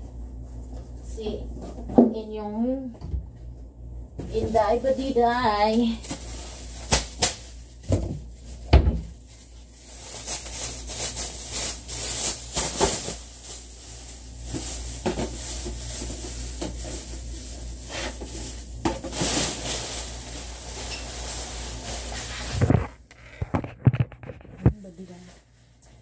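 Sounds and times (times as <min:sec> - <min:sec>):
plastic bag rustling: 0:04.2 - 0:26.0.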